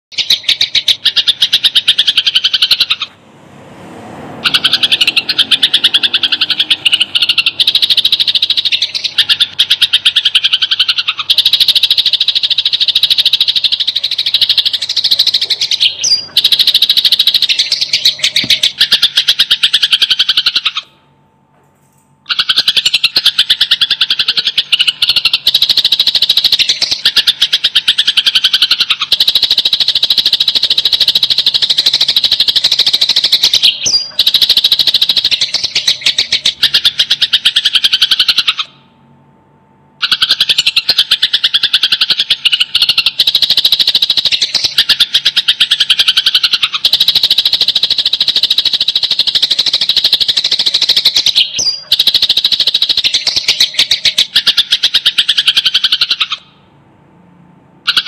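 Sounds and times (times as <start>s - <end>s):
sparrows chirping and chattering: 0.1s - 3.2s, 4.4s - 20.9s, 22.3s - 38.7s, 40.0s - 56.4s.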